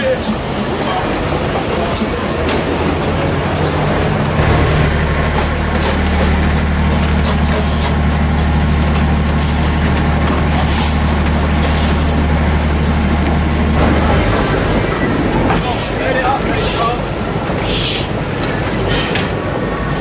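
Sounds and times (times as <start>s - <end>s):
steam hisses: 0.0s - 13.0s, 13.6s - 20.0s
low engine drone: 0.0s - 20.0s.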